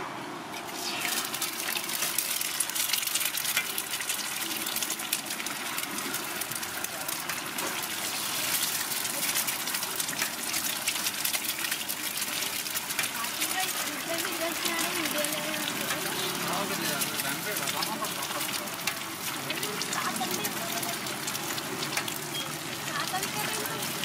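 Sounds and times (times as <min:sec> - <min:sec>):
eggs sizzling on griddle: 0:00.6 - 0:24.0.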